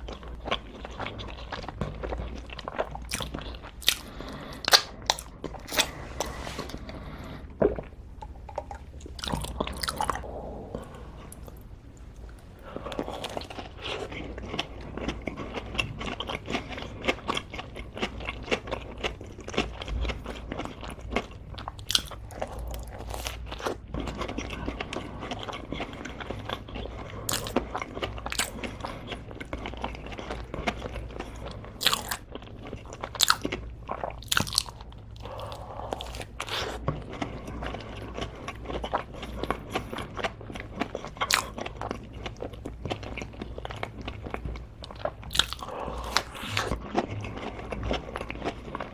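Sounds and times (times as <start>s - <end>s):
crunchy eating: 0.0s - 48.9s.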